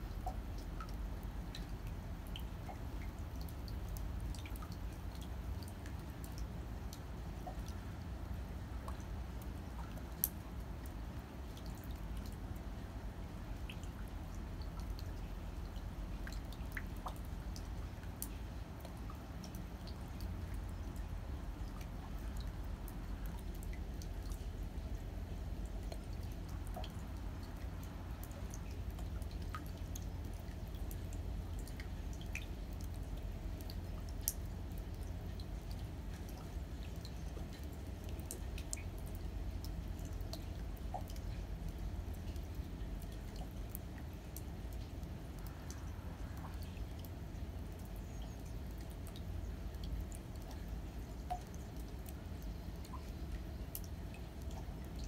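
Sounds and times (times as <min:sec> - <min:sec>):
raindrops ticking: 0:00.0 - 0:55.0.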